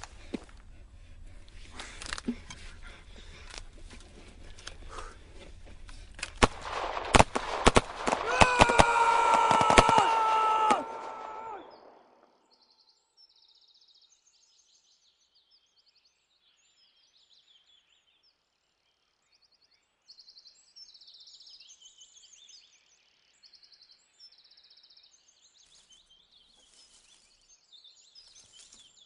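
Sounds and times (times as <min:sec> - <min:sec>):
faint songbirds singing: 0:00.0 - 0:06.9, 0:11.4 - 0:29.0.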